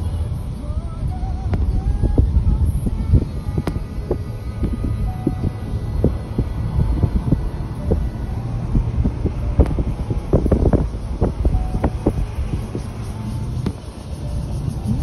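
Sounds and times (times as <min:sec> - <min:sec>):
vehicle road noise and engine rumble: 0:00.0 - 0:15.0.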